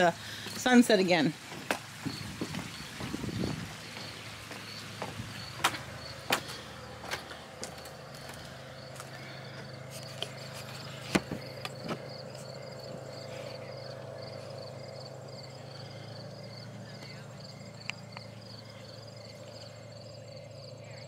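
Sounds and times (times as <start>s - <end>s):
crickets chirping: 0.0s - 21.0s
steady low hum: 0.0s - 21.0s.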